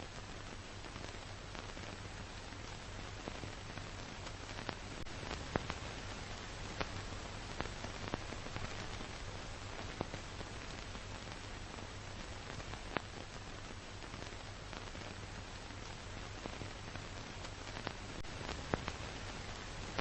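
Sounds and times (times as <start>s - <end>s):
clicks and crackles: 0.0s - 20.0s
film soundtrack hiss: 0.0s - 20.0s.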